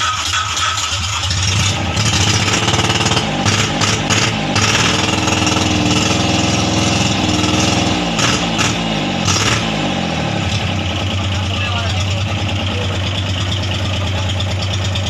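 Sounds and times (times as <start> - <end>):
diesel engine running loudly: 0.0 - 15.0.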